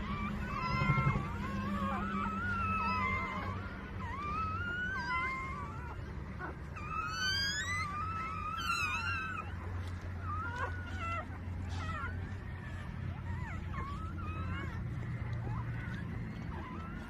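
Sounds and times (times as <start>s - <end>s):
puppies squeaking and whining: 0.0s - 17.0s.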